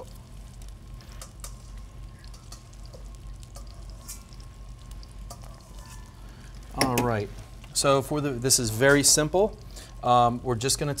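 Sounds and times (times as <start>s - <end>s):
faint hiss and hum: 0.0s - 11.0s.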